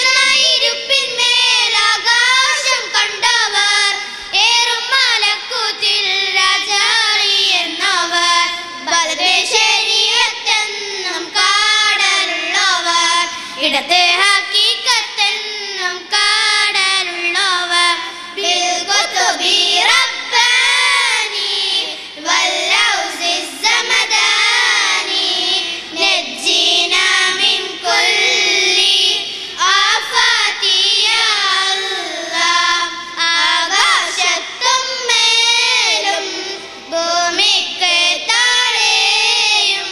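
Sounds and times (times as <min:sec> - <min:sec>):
girls singing into microphones: 0:00.0 - 0:39.9.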